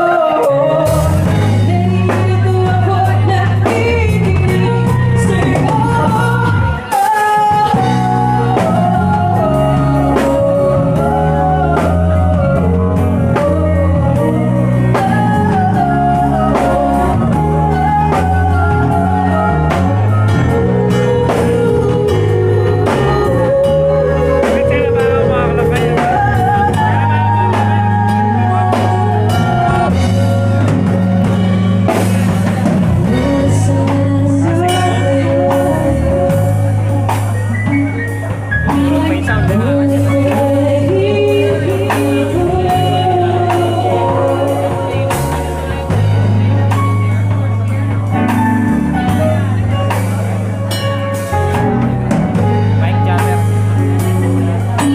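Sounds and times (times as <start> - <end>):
bass: 0.0 - 54.9
drum kit: 0.0 - 54.9
guitar: 0.0 - 54.9
person singing: 0.0 - 54.9.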